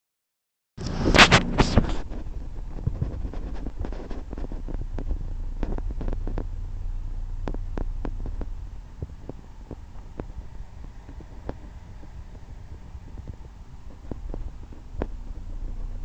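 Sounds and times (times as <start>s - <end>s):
boat rumble: 0.8s - 16.0s.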